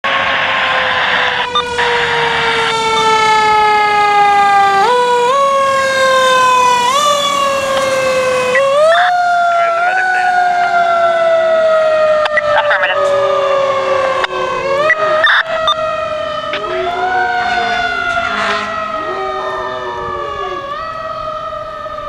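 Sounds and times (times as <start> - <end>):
fire truck siren: 0.0 - 22.0.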